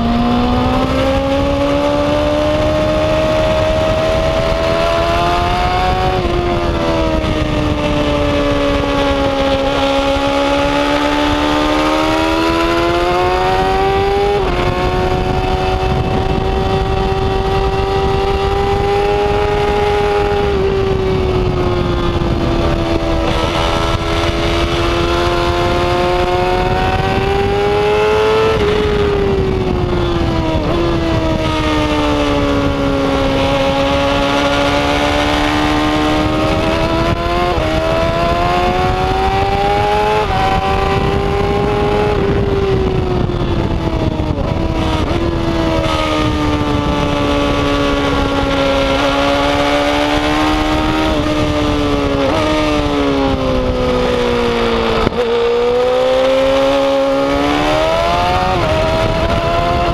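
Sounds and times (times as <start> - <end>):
gear changes: 0.0 - 59.9
motorcycle engine at high revs: 0.0 - 59.9
wind rush: 0.0 - 59.9.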